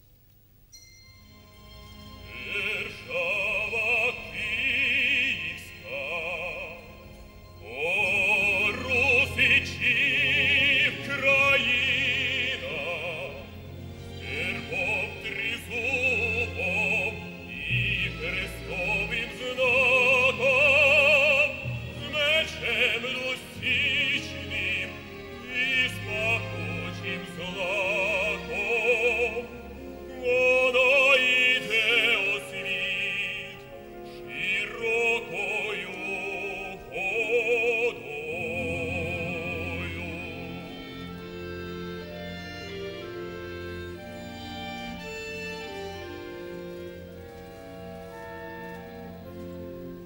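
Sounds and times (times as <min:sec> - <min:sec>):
orchestra strings: 0:00.7 - 0:50.0
man singing opera: 0:02.1 - 0:46.4.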